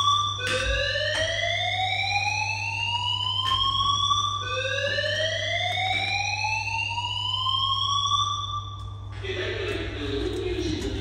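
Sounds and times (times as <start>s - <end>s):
fire alarm rising whoop: 0.0s - 9.1s.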